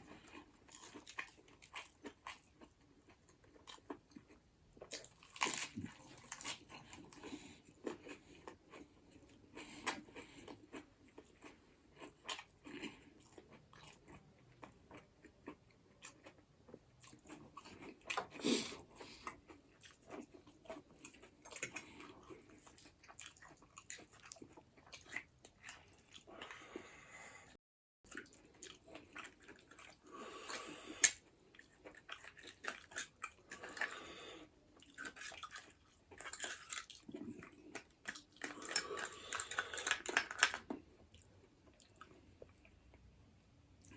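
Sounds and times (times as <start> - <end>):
person chewing food: 0.0 - 27.5, 28.1 - 43.1.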